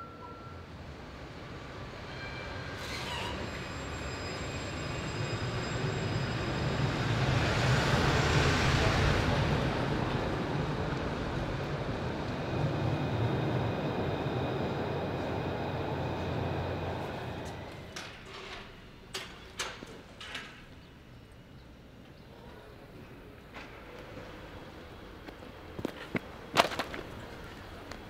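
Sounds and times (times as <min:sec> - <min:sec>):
tram passing close by: 0:00.0 - 0:28.0.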